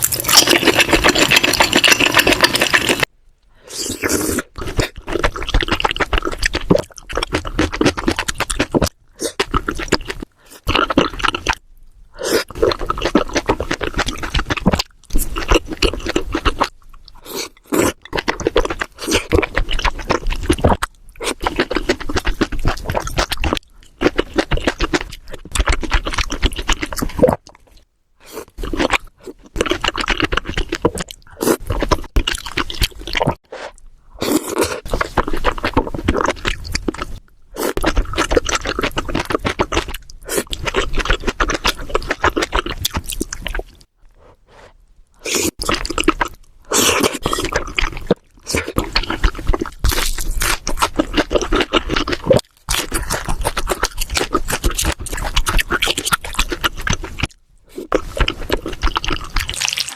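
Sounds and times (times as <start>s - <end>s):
crunchy wet chewing: 0.0s - 3.1s, 3.7s - 59.9s.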